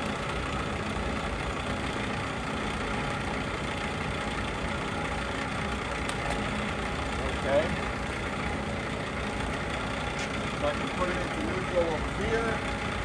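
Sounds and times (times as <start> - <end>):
engine lathe running: 0.0 - 13.0.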